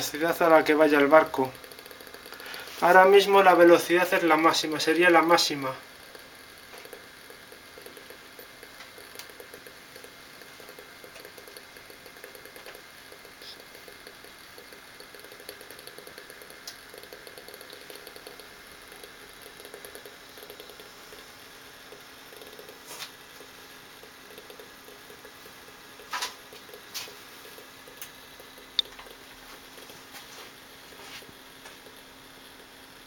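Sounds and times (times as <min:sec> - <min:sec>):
small fan fluttering whirr: 0:00.0 - 0:33.0.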